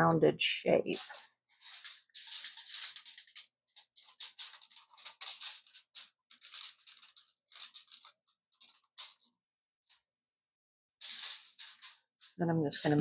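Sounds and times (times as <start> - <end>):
aluminium foil crinkling: 0.7 - 10.0, 11.0 - 13.0.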